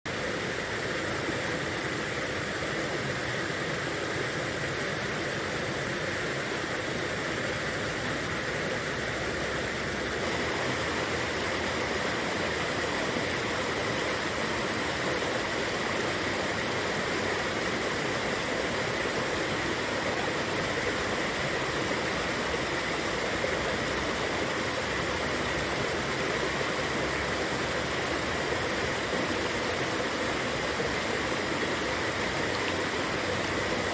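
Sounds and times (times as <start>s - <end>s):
river babbling and gurgling: 0.1s - 33.9s.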